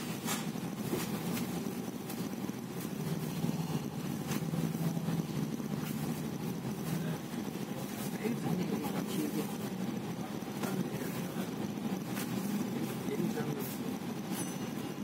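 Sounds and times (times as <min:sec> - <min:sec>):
bus engine hum and road noise: 0:00.0 - 0:15.0.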